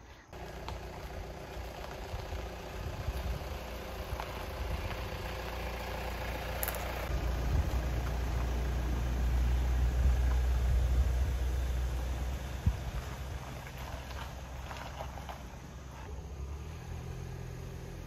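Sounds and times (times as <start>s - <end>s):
car driving slowly past: 0.3s - 18.0s.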